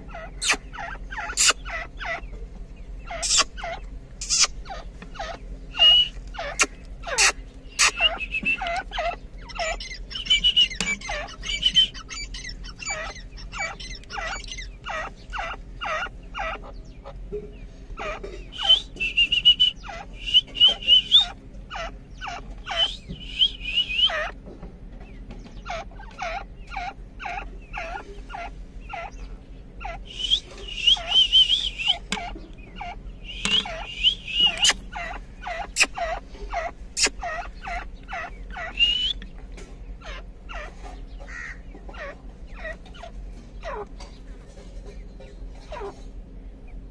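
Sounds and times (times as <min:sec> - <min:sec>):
rapid chattering bird trills: 0:00.0 - 0:17.3, 0:17.9 - 0:46.9
birds calling short sharp notes: 0:00.0 - 0:46.9.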